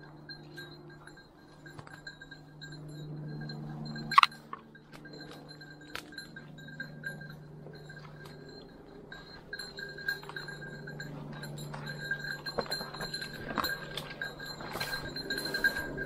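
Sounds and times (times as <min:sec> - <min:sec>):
dog collar bell ringing: 0:00.0 - 0:16.0.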